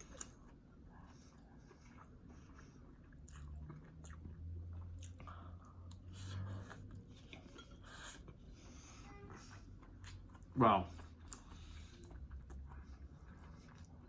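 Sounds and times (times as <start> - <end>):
chewing noodles: 0.0 - 14.0.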